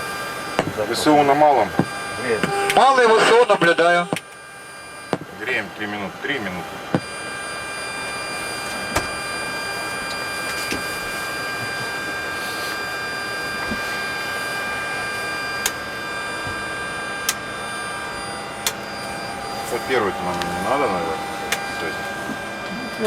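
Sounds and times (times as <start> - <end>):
auxiliary power unit whining: 0.0 - 23.0.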